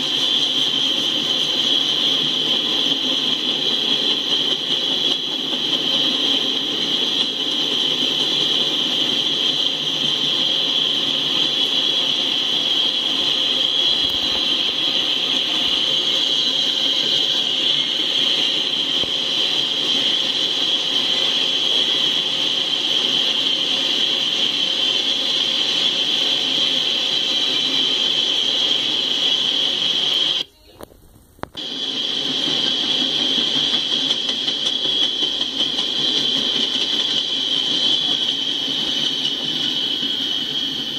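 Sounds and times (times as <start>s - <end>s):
constant high whine: 0.0s - 40.9s
freight train wheels on rails: 0.0s - 40.9s.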